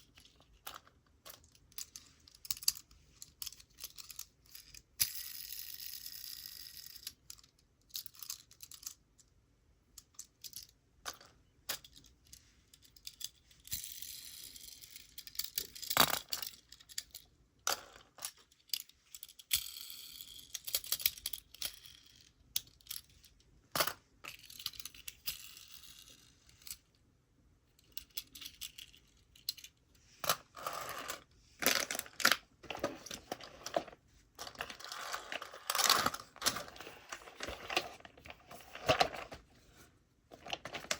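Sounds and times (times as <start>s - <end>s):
toy cars clicking and tapping: 0.0s - 9.0s, 10.0s - 26.8s, 27.8s - 37.7s.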